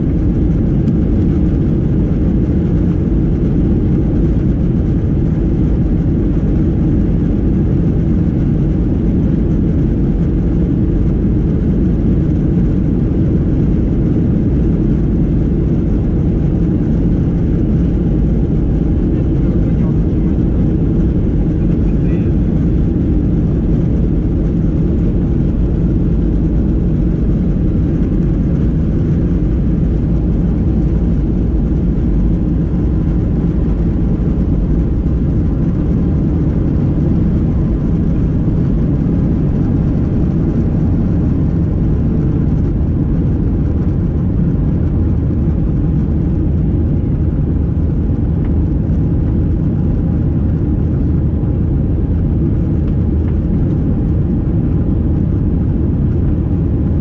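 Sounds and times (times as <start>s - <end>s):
jet engine roar in cabin: 0.0s - 57.0s.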